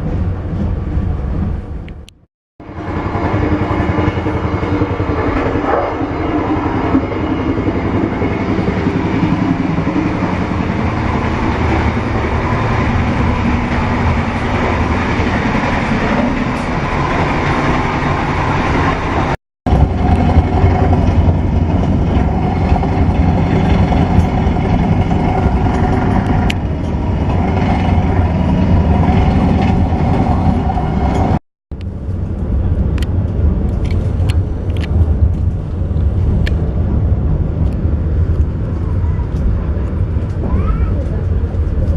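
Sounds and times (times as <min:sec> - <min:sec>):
rumble of moving train: 0:00.0 - 0:41.9.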